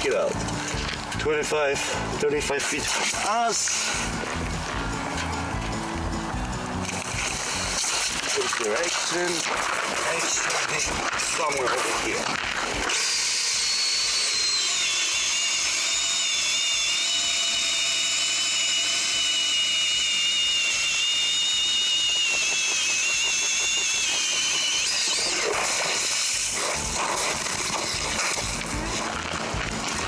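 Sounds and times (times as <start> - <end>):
power ice auger whining: 0.0 - 30.0.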